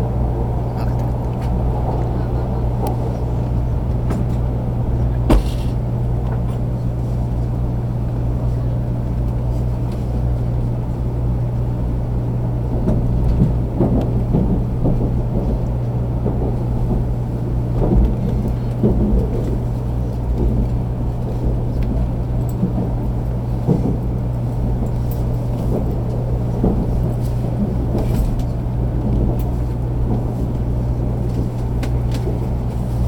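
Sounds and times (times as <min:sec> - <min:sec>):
train running rumble: 0:00.0 - 0:33.0.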